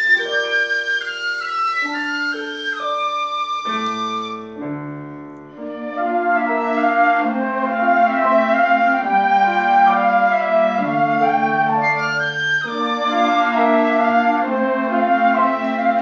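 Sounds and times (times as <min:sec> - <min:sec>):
strings winds and piano playing: 0:00.0 - 0:16.0.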